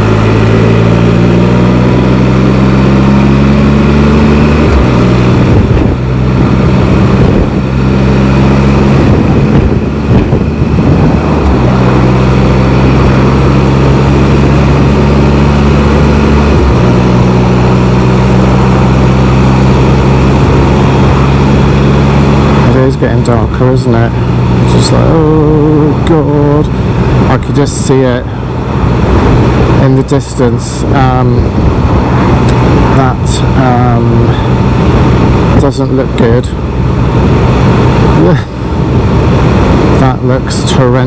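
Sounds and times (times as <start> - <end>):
motorcycle engine running: 0.0 - 41.0
rough noise: 0.0 - 41.0.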